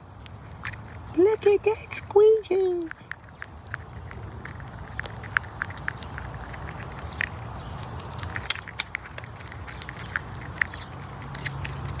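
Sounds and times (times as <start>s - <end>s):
chipmunk chewing: 0.0s - 12.0s.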